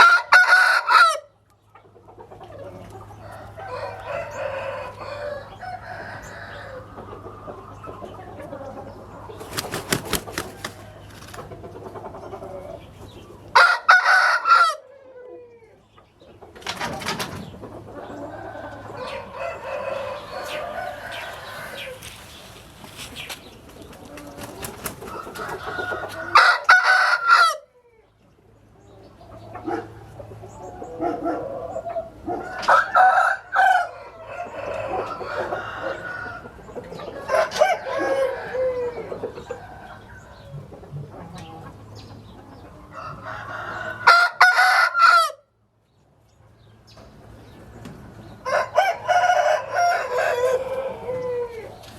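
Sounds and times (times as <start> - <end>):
roosters crowing: 0.0 - 1.4, 2.6 - 15.8, 16.7 - 28.1, 29.5 - 40.6, 41.2 - 45.6, 48.2 - 51.9
chicken calls: 0.0 - 45.6, 46.7 - 51.9.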